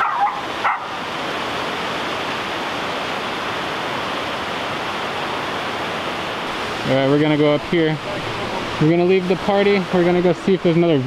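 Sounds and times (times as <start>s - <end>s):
roar of falling water: 0.0s - 11.0s.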